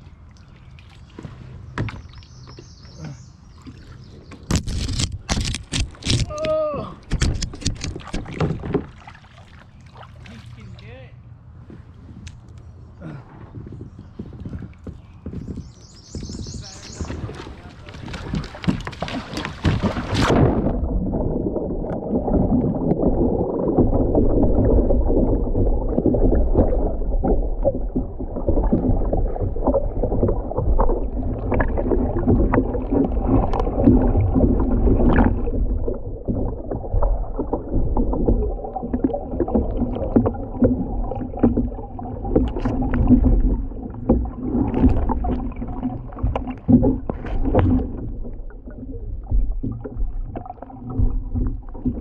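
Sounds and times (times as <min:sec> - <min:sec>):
water sloshing against hull: 0:00.0 - 0:52.0.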